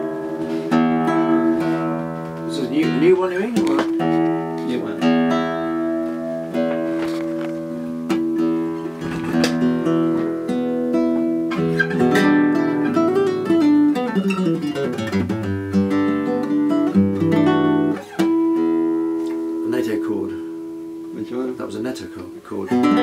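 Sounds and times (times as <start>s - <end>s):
classical guitar fingerpicked: 0.0s - 23.0s.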